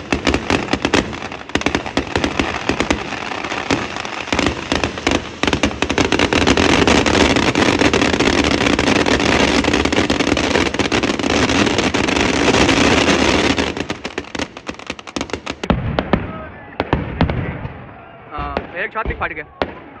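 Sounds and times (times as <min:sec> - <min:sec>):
fireworks crackling bangs: 0:00.0 - 0:20.0.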